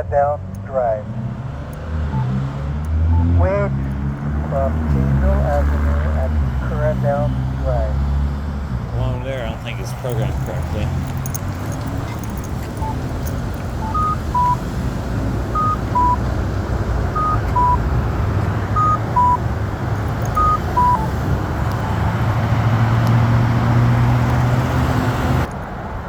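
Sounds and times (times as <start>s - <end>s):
vehicle passing: 0.0s - 25.9s
road traffic: 0.0s - 26.0s.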